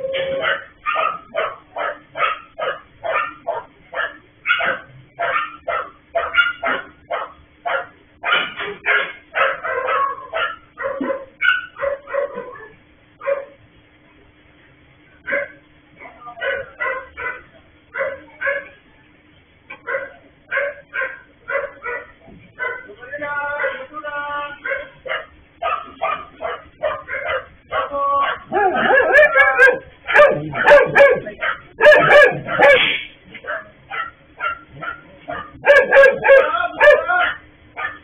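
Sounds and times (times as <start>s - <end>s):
faint steady hum: 0.0s - 38.0s
dog barking: 0.3s - 13.6s, 15.2s - 18.8s, 19.7s - 22.9s, 23.6s - 23.9s, 24.6s - 38.0s.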